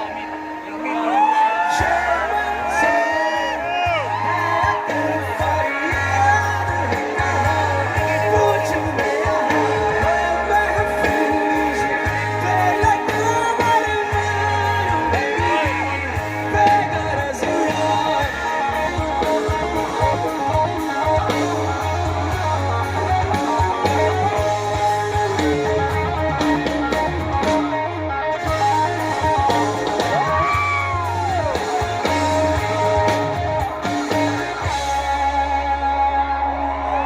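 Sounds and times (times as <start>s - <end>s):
guitars playing melodic lines: 0.0s - 37.0s
live rock band: 0.0s - 37.0s
sustained bass: 0.0s - 37.0s.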